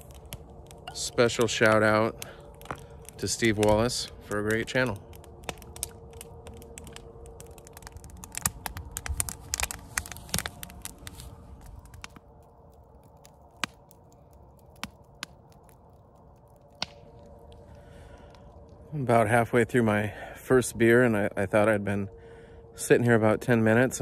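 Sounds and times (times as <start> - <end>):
campfire crackling and popping: 0.0 - 22.5
faint steady hum: 0.0 - 24.0.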